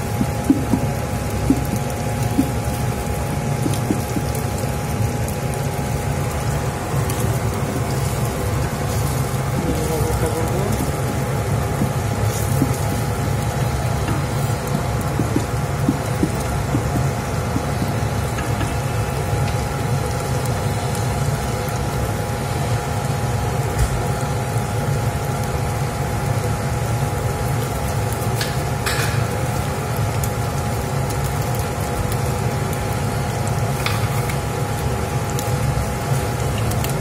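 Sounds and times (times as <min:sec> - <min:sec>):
continuous low hum: 0:00.0 - 0:37.0
food sizzling in oil: 0:00.0 - 0:37.0.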